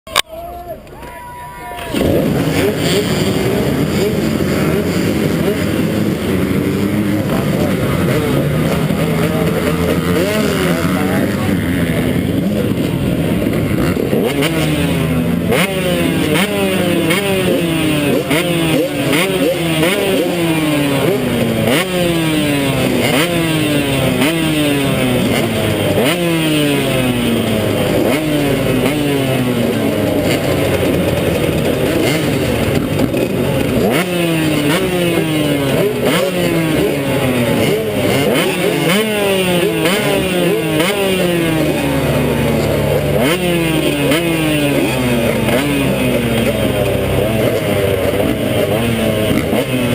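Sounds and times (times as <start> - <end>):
dirt bike engine revving: 0.1 - 49.9.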